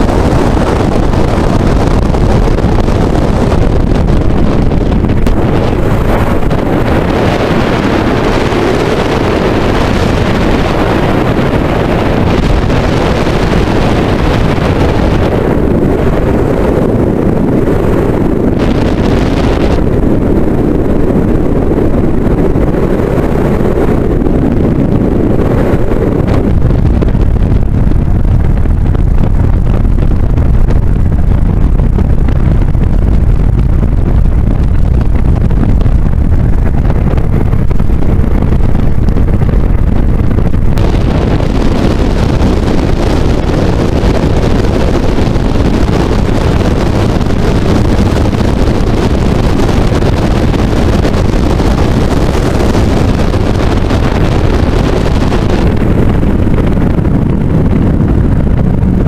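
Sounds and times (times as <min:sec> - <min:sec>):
jet boat engine roaring: 0:00.0 - 0:59.0
wind buffeting microphone: 0:00.0 - 0:59.0.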